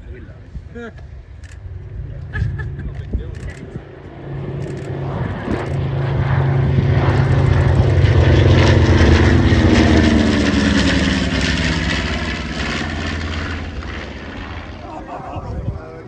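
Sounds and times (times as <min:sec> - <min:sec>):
propeller plane flying past: 0:01.1 - 0:16.0.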